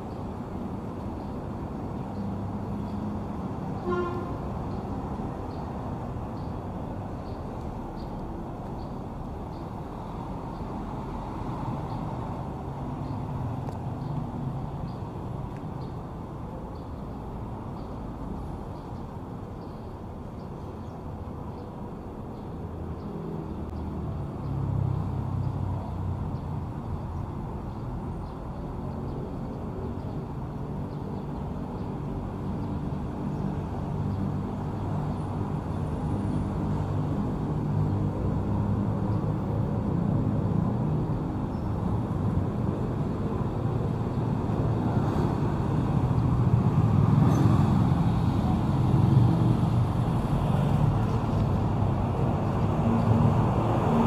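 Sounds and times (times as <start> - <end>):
passing vehicle engines: 0.0 - 54.0.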